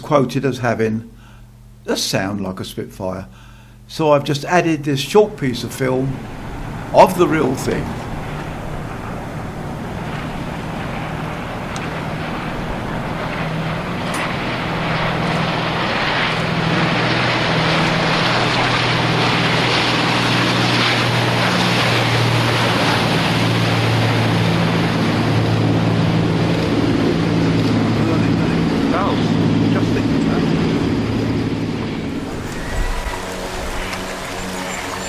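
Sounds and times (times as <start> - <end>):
boat engine drone: 2.8 - 35.0
water and wind rushing: 5.1 - 35.0.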